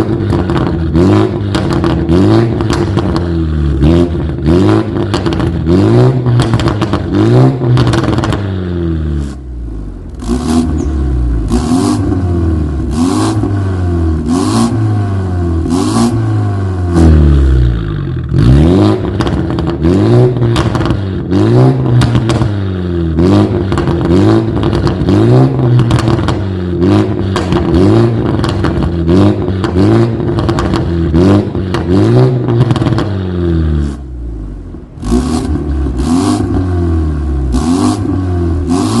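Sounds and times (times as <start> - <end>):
exhaust cracks: 0.0 - 16.3, 16.9 - 39.0
car engine revving: 0.0 - 39.0.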